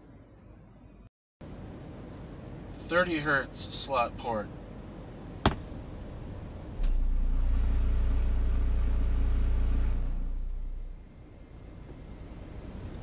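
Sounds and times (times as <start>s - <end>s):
very deep hum from subwoofer: 0.0s - 13.0s.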